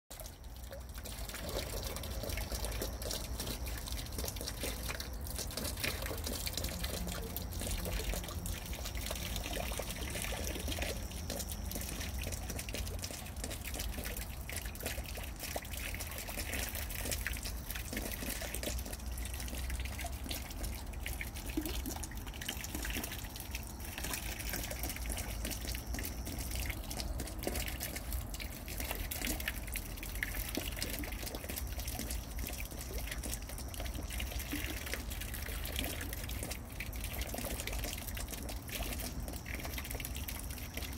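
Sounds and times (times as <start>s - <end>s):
water drips and splashes: 0.1s - 40.9s
low steady rumble: 0.2s - 40.9s.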